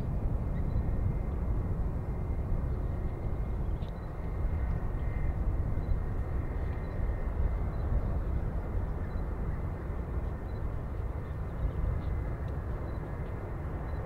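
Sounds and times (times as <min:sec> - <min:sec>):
distant jet engine rumble: 0:00.0 - 0:14.0.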